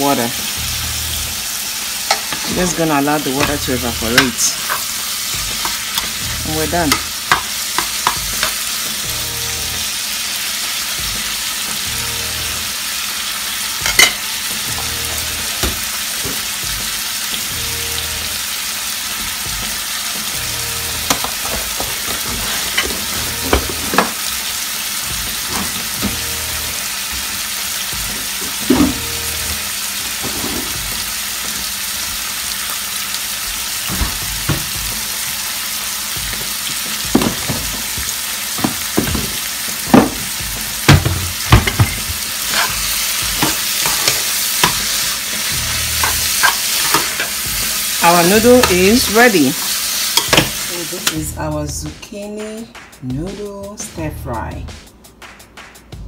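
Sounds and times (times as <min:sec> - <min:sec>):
food sizzling in frying pan: 0:00.0 - 0:51.8.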